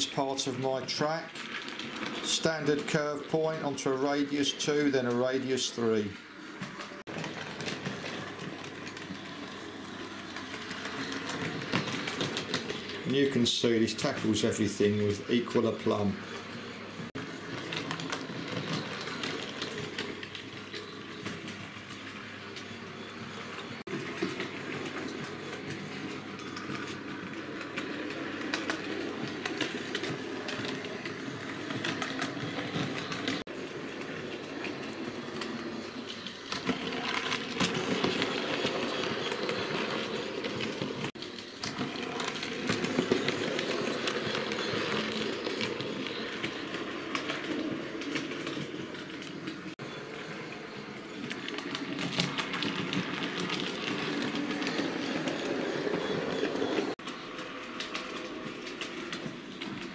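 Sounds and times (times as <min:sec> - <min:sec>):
model train wheels clicking on rails: 0:00.0 - 0:16.4, 0:17.1 - 0:59.9.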